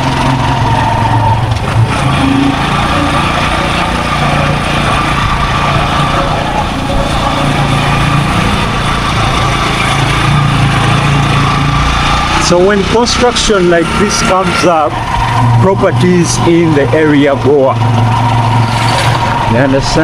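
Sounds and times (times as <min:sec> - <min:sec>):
road traffic noise: 0:00.0 - 0:20.0
small engine humming: 0:00.0 - 0:20.0.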